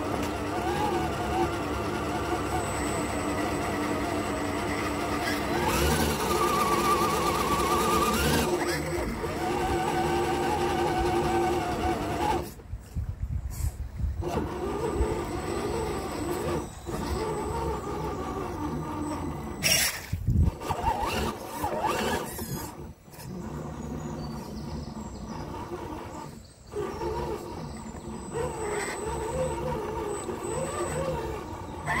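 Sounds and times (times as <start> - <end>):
electric motor whining: 0.0 - 12.7, 13.6 - 32.0.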